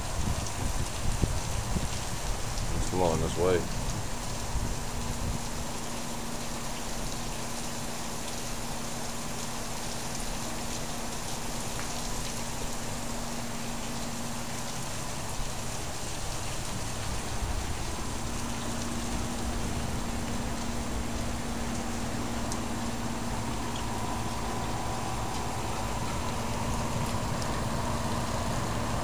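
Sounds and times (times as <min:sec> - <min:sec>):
faint steady hum: 0:00.0 - 0:29.0
heavy rain pouring: 0:00.0 - 0:29.0.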